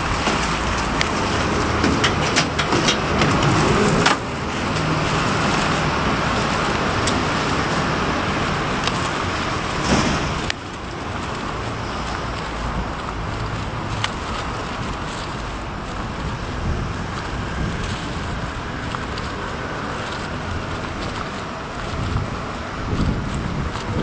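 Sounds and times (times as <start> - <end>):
road traffic on wet pavement: 0.0 - 24.0.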